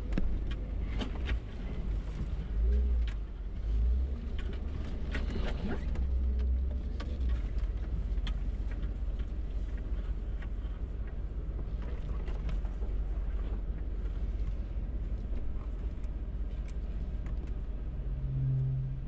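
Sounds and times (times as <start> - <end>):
clicks and knocks over rough ground: 0.0 - 17.7
off-road vehicle engine rumble: 0.0 - 19.0.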